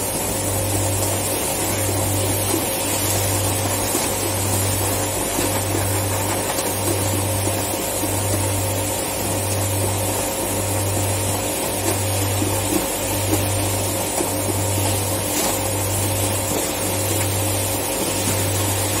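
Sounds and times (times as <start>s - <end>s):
loud low machinery hum: 0.0s - 19.0s
steady machine whine: 0.0s - 19.0s.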